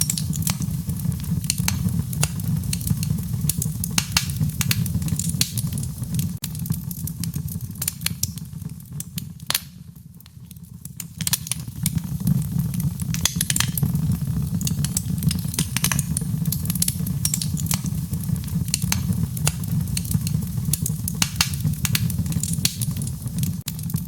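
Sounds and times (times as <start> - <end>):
low rumble of fire: 0.0 - 24.0
wood fire crackling and popping: 0.0 - 24.0.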